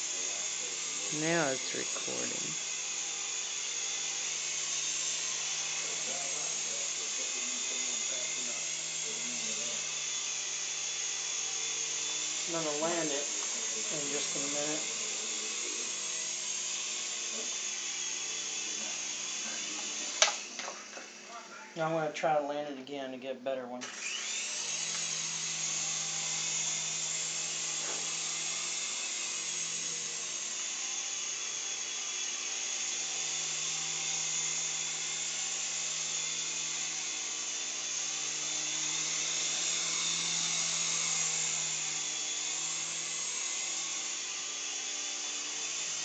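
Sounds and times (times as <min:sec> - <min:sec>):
remote-control helicopter whine: 0:00.0 - 0:22.5, 0:23.8 - 0:46.0.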